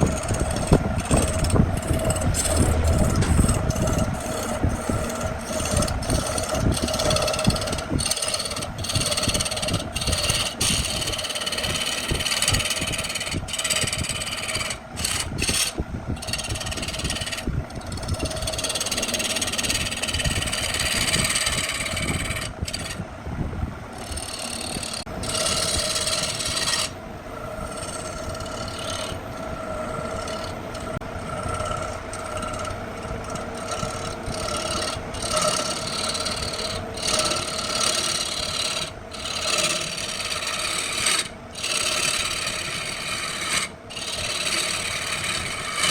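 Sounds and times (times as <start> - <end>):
wood lathe humming: 0.0 - 23.1, 23.9 - 45.9
tool scraping spinning wood: 0.0 - 45.9.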